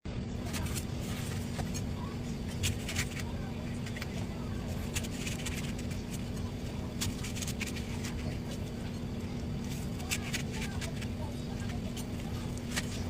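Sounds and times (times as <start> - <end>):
low hum and rumble: 0.1 - 13.0.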